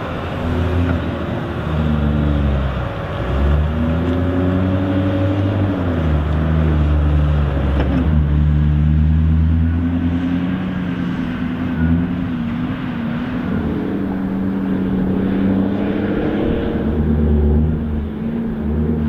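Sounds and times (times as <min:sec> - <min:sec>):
heavy diesel engines under load: 0:00.0 - 0:19.0.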